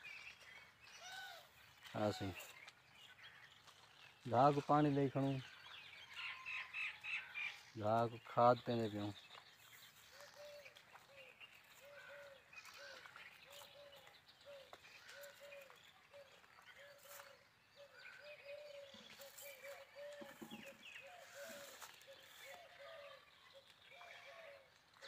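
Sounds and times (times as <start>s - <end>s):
low repeated bird calls: 0.0s - 25.0s.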